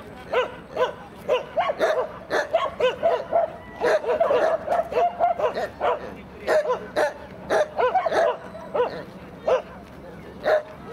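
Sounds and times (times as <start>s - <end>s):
dogs barking: 0.3s - 9.7s, 10.4s - 10.9s.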